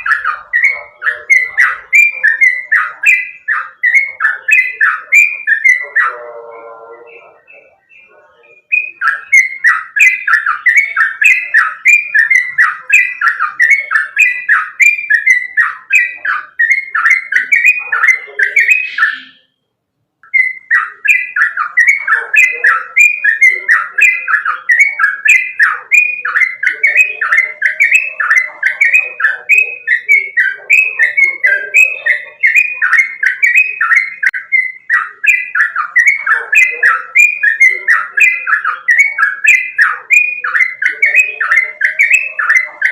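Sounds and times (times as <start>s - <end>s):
bulbul singing repeated notes: 0.0s - 42.9s.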